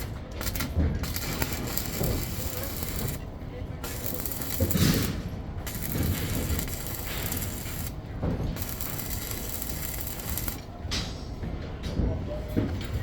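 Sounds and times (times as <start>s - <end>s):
rattling mechanical noise: 0.0s - 12.1s.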